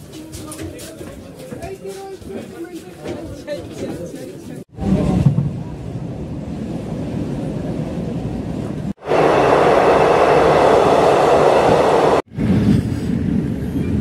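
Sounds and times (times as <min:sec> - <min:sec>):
noise inside train coach: 0:00.0 - 0:14.0
train rolling noise: 0:00.0 - 0:14.0.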